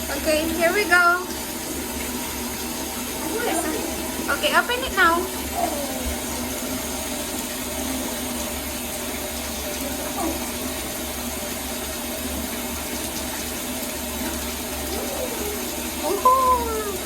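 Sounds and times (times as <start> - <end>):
water running into bathtub: 0.0 - 17.0.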